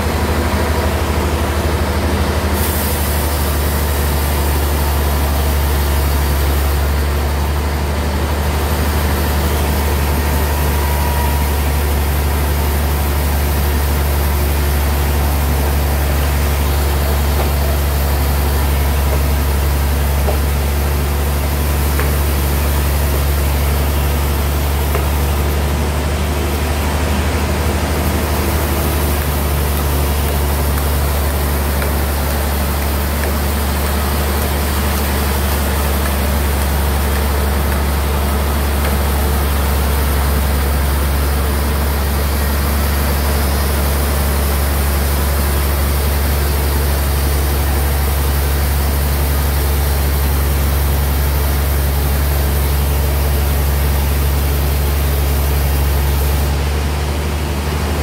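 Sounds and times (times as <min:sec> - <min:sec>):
band saw machine drone: 0:00.0 - 0:58.0.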